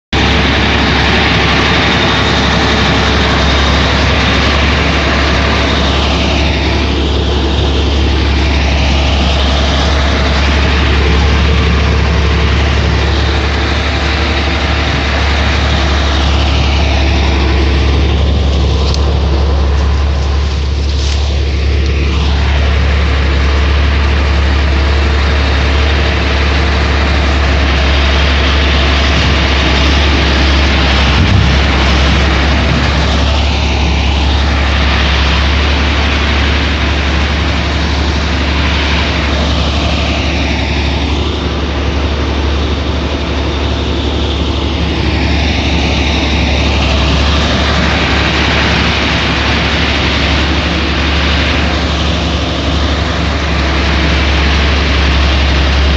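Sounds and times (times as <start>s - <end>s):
heavy diesel machinery engine drone: 0.0s - 55.9s
continuous rushing noise: 0.1s - 55.9s.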